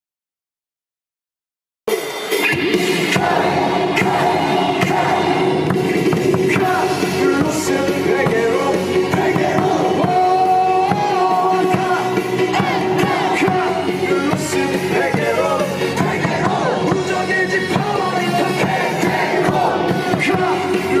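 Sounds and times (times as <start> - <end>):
upbeat backing music: 1.9 - 21.0
voices singing a chant: 3.0 - 21.0.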